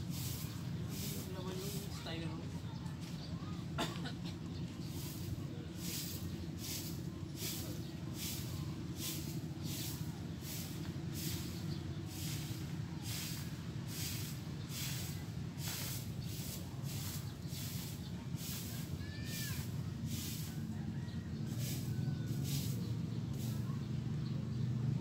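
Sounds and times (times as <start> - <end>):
broom sweeping dirt: 0.0 - 3.4, 4.6 - 24.6.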